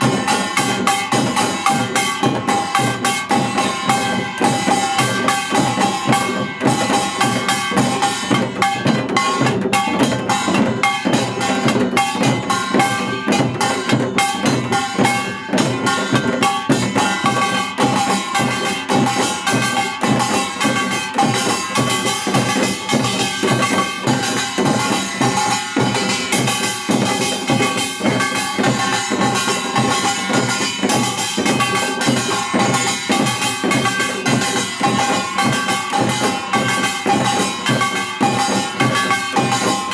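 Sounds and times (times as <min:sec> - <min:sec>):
dense drum strokes: 0:00.0 - 0:39.9.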